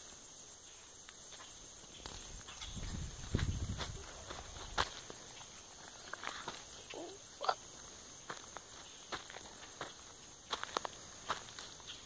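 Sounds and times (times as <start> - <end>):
footsteps crunching dry leaves: 1.3 - 6.9, 7.8 - 12.0.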